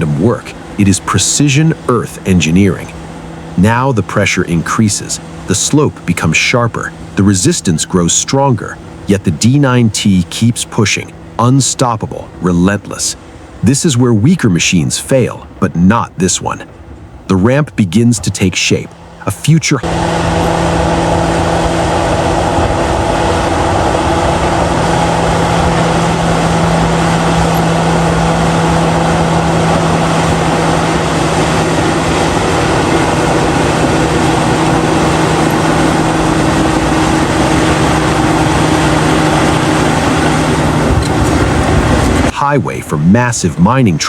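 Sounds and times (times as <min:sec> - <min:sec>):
bulldozer diesel engine droning: 0:00.0 - 0:44.0.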